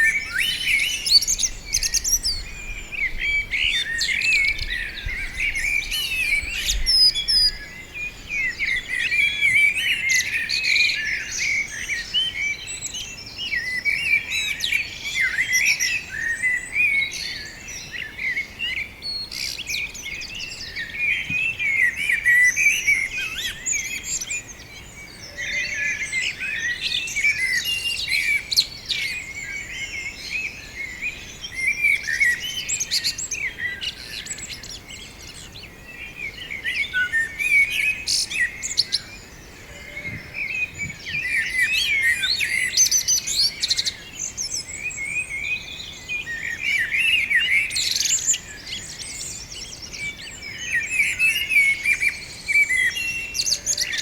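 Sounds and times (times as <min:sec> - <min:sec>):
small birds chirping and singing: 0:00.0 - 0:54.0.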